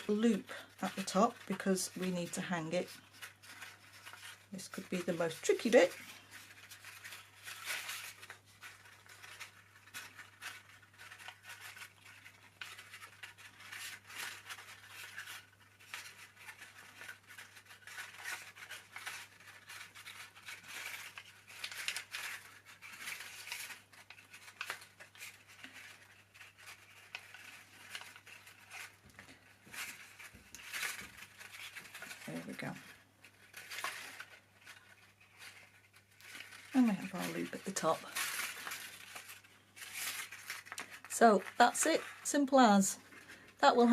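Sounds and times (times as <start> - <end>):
cord and paper rustling: 0.0 - 43.9.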